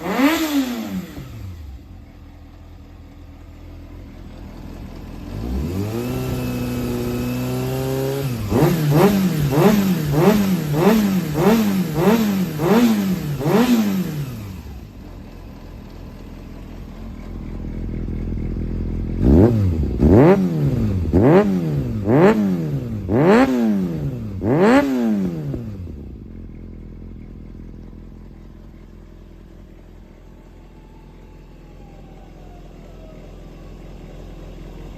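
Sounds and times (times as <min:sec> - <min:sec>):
motorcycle engine revving: 0:00.0 - 0:31.8.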